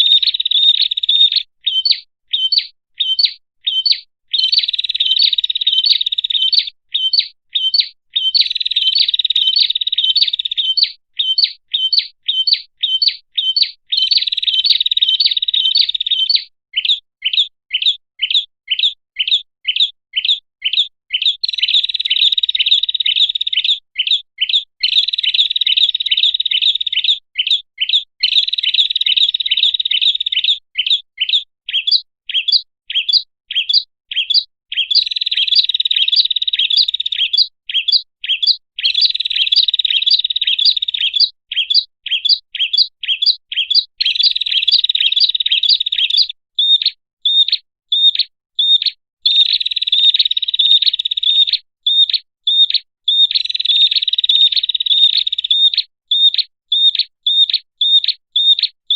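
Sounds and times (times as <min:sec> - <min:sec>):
bird song trills and chirps: 0:00.0 - 0:58.9.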